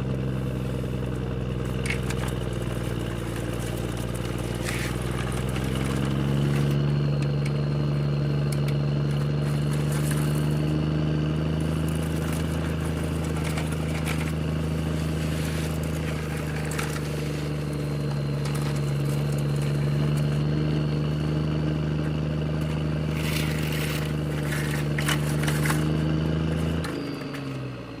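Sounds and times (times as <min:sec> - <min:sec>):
steady motor drone: 0:00.0 - 0:28.0.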